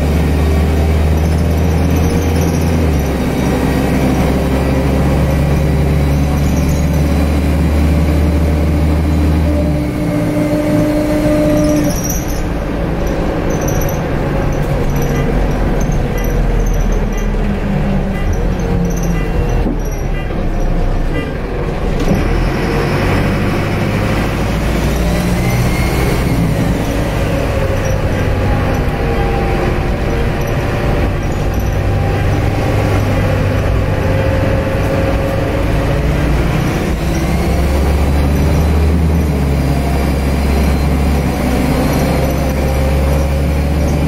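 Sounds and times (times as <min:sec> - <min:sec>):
bus engine pulling: 0:00.0 - 0:44.0.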